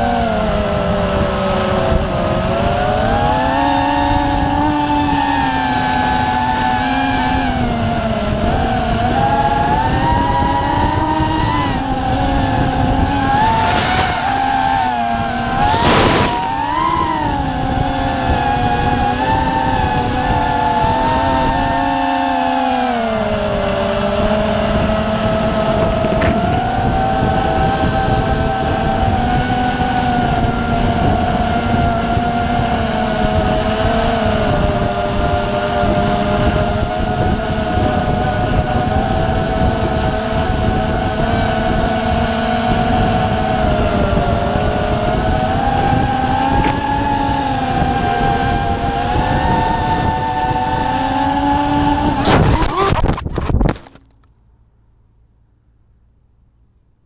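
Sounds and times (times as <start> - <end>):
wind rushing on microphone: 0.0 - 53.8
drone motors whining: 0.0 - 54.2.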